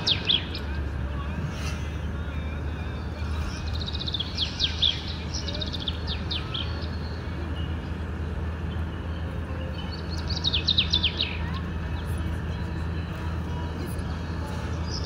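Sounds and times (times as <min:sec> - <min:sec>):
songbird chirping: 0:00.0 - 0:01.3, 0:02.2 - 0:15.0
car driving rumble: 0:00.0 - 0:15.0.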